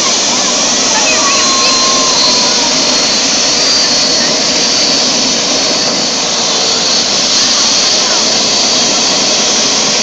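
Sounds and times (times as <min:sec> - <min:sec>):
helicopter turbine engine running: 0:00.0 - 0:10.0.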